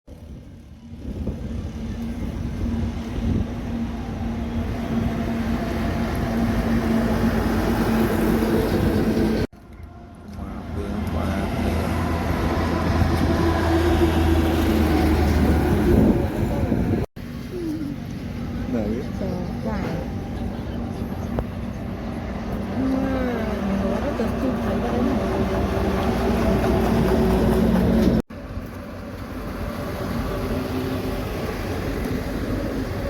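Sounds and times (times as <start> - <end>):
passing truck engine and tyres: 0.1 - 33.0.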